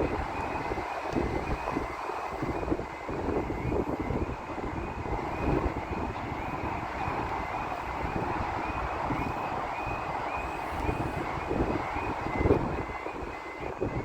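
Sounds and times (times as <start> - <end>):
crossing warning alarm tones: 0.0 - 14.0.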